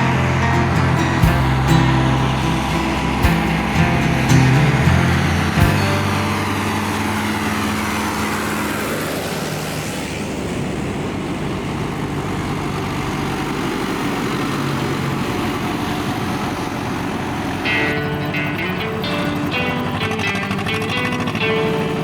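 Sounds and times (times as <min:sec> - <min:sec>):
engine passing by: 0:00.0 - 0:22.0.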